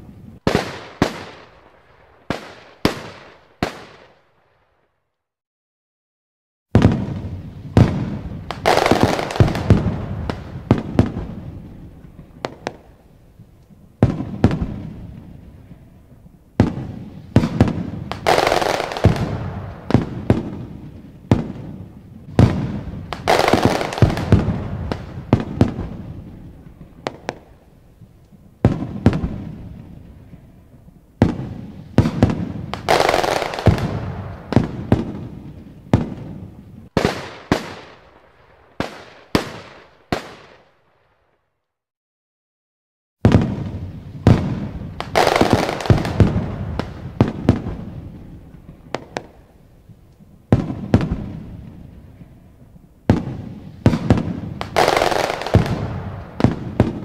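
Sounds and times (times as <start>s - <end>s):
fireworks crackling: 0.0s - 4.3s, 6.7s - 40.8s, 43.2s - 57.0s
fireworks bursting with sharp bangs: 0.0s - 5.1s, 6.7s - 41.6s, 43.2s - 57.0s.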